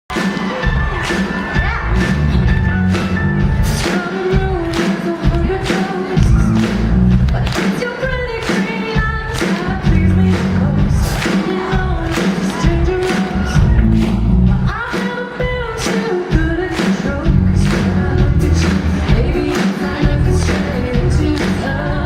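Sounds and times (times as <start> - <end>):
live pop band playing: 0.1 - 22.0
person singing: 3.6 - 13.9, 14.5 - 22.0.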